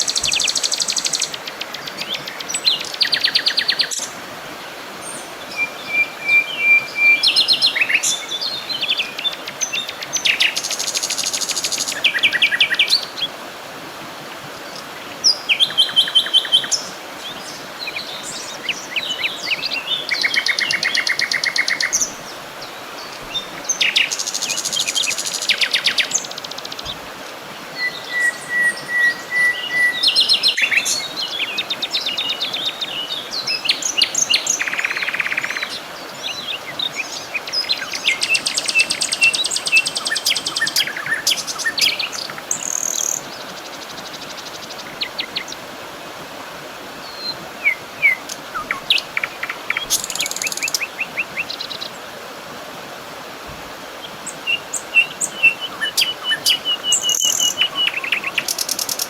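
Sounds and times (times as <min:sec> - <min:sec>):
songbirds singing: 0:00.0 - 0:13.4, 0:14.2 - 0:52.4, 0:53.3 - 0:59.0
faint steady hiss: 0:00.0 - 0:59.0.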